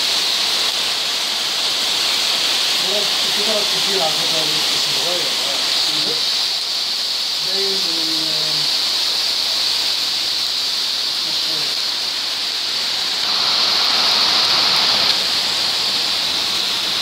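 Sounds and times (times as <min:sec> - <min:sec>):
car tyres swishing on wet road: 0:00.0 - 0:17.0
heavy rain pouring on street: 0:00.0 - 0:17.0.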